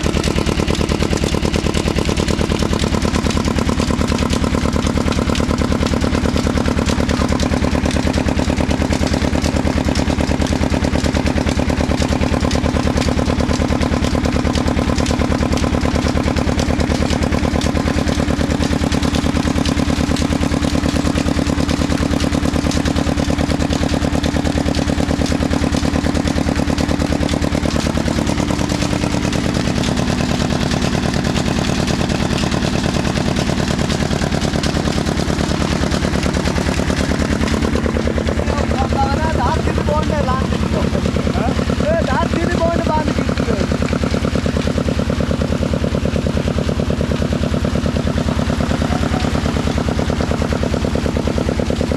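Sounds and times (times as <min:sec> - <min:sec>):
diesel engine knocking: 0:00.0 - 0:51.9.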